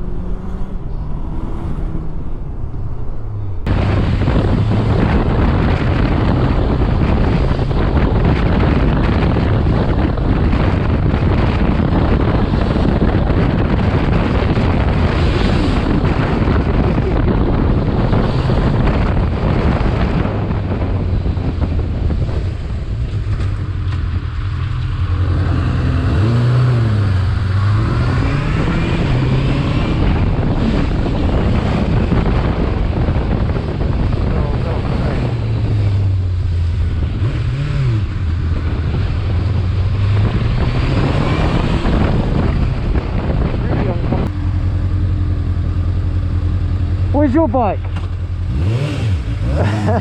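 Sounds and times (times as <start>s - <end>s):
wind rushing over microphone: 0.0s - 50.0s
motorcycle engine running: 3.3s - 50.0s.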